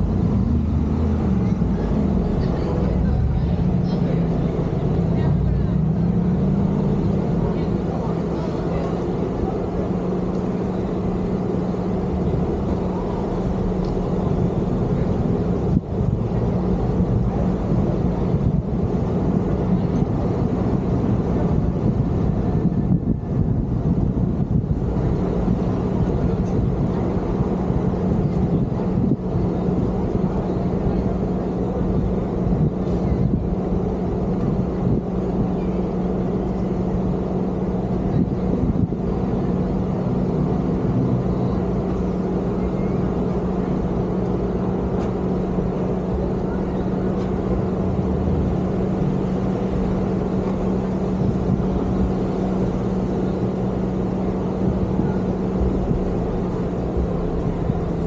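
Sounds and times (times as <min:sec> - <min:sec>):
constant low hum: 0:00.0 - 0:58.0
road and engine rumble: 0:00.0 - 0:58.0.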